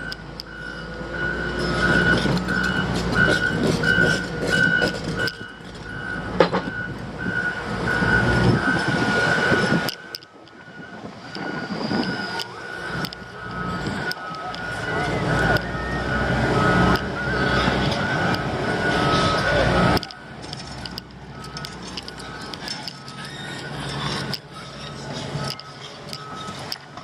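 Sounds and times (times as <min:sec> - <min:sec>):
heavy vehicle engine whining: 0:00.0 - 0:27.0.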